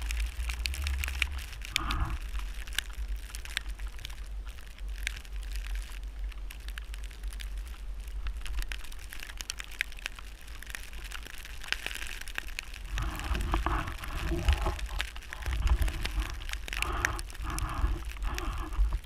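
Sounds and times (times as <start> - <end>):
wind rumbling on microphone: 0.0 - 8.8, 12.4 - 19.0
snow crackling and crunching: 0.0 - 19.0.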